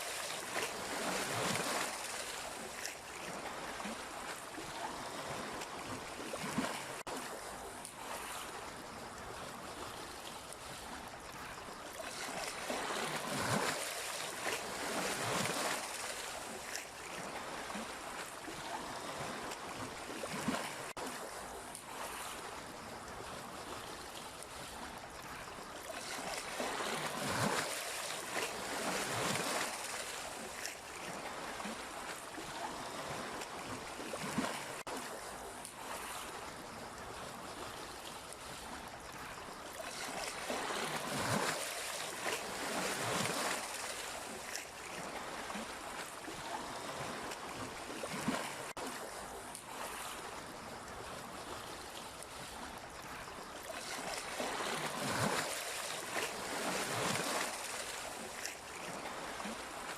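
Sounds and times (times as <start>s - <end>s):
sea waves splashing on shore: 0.0s - 59.9s.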